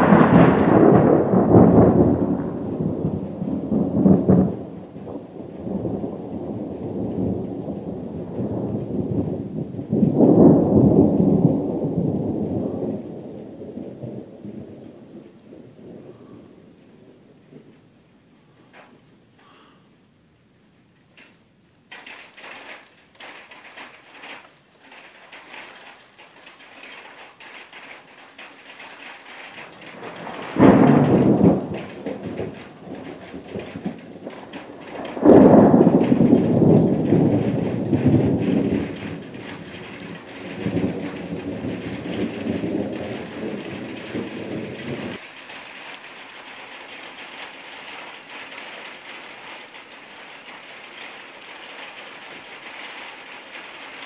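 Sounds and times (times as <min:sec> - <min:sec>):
thunder rumbling: 0:00.0 - 0:19.0, 0:21.9 - 0:54.0
rain hissing: 0:00.0 - 0:54.0.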